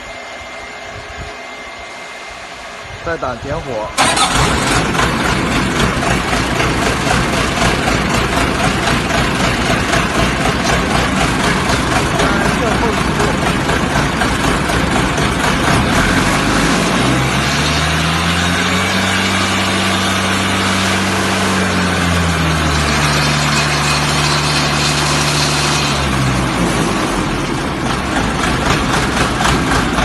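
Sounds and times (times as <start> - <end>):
diesel engine revving: 4.0 - 30.0.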